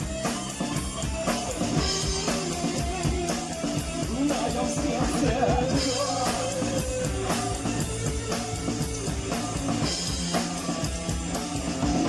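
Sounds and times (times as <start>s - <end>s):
bass guitar: 0.0s - 12.0s
drum kit beat: 0.0s - 12.0s
electric guitar: 0.0s - 12.0s.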